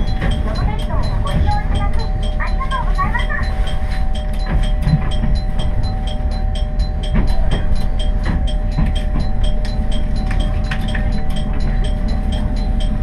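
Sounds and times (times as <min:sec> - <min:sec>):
held hum tones: 0:00.0 - 0:13.0
light even ticking: 0:00.0 - 0:13.0
railcar rumble: 0:00.0 - 0:13.0.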